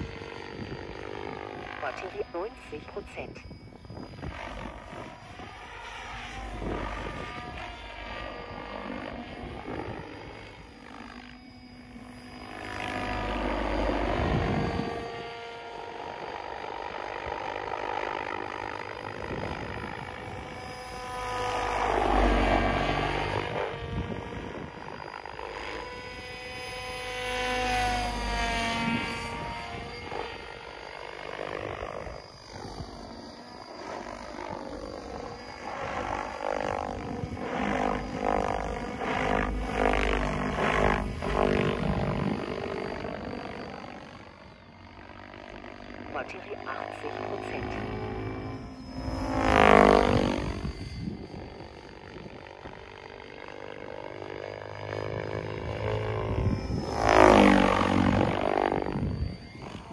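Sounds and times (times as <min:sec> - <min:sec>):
rc helicopter rotor whine: 0:00.0 - 0:59.9.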